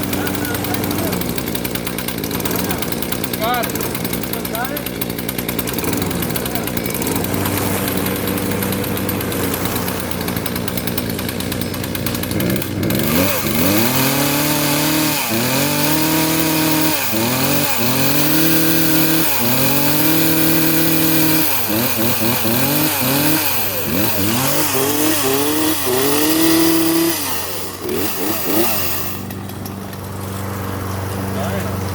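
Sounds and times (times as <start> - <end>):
chainsaw engine idling and revving: 0.0 - 31.9.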